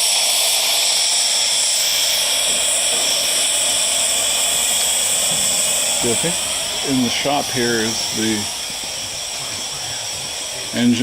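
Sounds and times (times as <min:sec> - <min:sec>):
safety valve hissing steam: 0:00.0 - 0:11.0.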